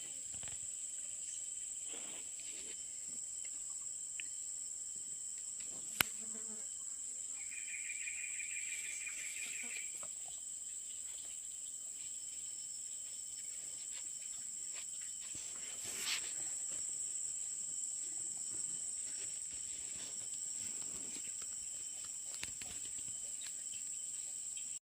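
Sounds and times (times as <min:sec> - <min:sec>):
insects chirping: 0:00.0 - 0:24.8
low rapid insect trill: 0:00.0 - 0:24.8.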